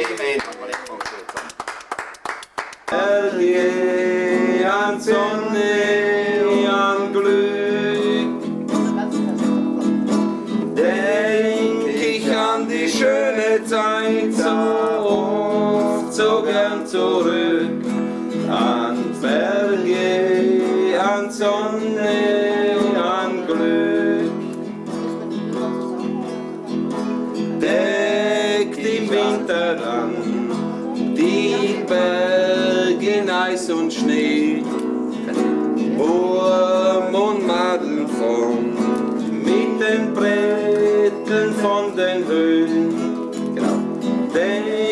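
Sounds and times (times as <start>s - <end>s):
classical guitar picked and strummed: 2.8s - 44.9s.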